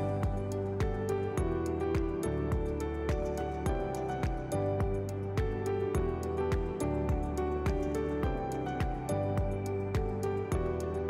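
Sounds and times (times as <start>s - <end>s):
soft music with steady beat: 0.0s - 11.0s.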